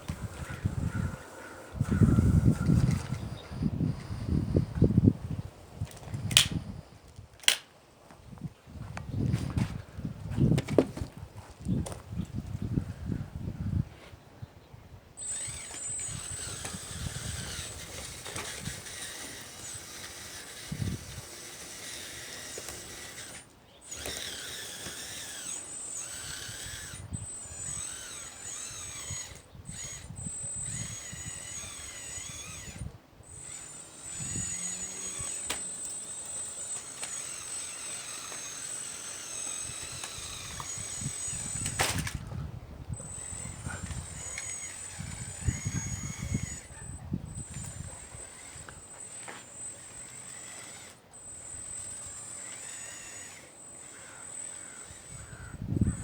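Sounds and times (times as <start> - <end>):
electric motor whine: 0.0 - 7.7, 15.1 - 56.0.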